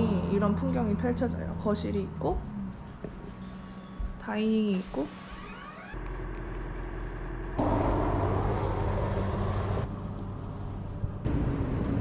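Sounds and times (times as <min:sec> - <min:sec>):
car engine and road noise: 0:00.0 - 0:04.2, 0:05.2 - 0:12.0.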